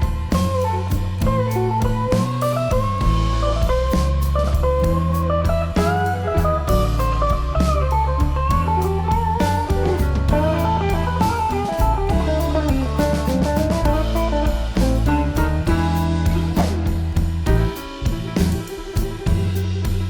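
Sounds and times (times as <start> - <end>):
bass: 0.0 - 20.0
drum kit beat: 0.0 - 20.0
electric guitar melody: 0.0 - 20.0.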